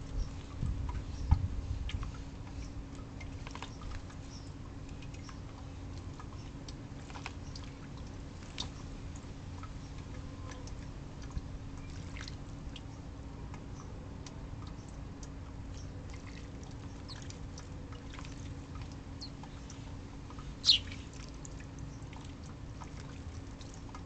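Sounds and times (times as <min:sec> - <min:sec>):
steady low hum: 0:00.0 - 0:24.0
water splashing and dripping: 0:00.0 - 0:24.0.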